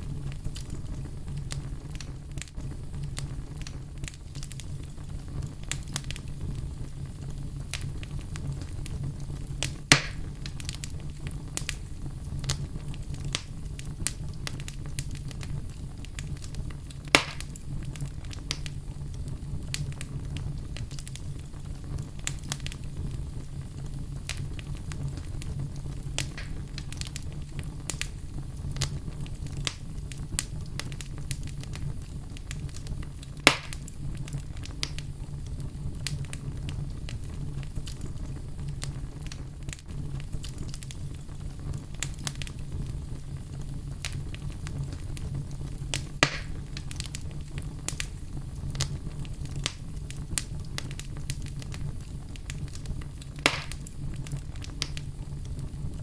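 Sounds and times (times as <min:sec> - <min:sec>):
fire crackling: 0:00.0 - 0:56.0
fire rumbling: 0:00.0 - 0:56.0
wood fire popping: 0:00.0 - 0:56.0.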